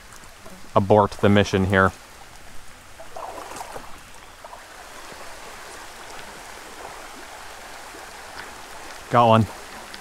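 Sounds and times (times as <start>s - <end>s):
creek water running: 0.0s - 10.0s.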